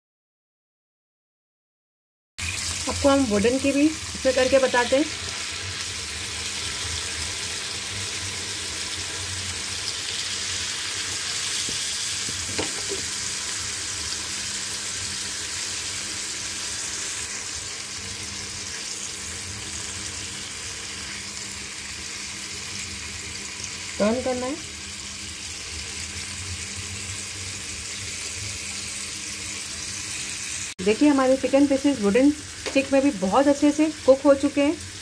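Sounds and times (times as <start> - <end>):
chicken sizzling in hot oil: 2.4 - 35.0.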